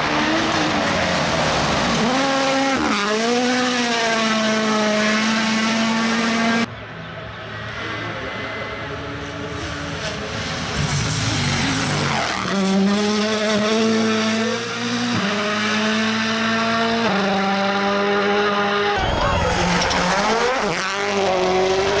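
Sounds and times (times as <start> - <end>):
rally car engine at high revs: 0.0 - 6.7, 7.6 - 22.0.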